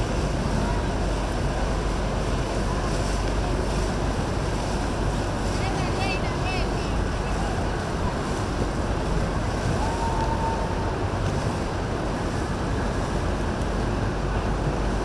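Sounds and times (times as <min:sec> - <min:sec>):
boat motors running: 0:00.0 - 0:15.0
water rushing: 0:00.0 - 0:15.0
wind on microphone: 0:00.0 - 0:15.0.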